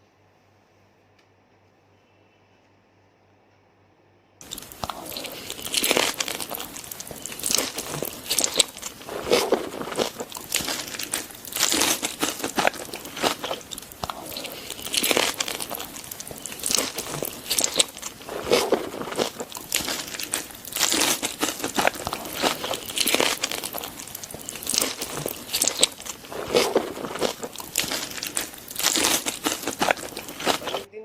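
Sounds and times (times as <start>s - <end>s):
person chewing and crunching food: 4.4s - 30.9s.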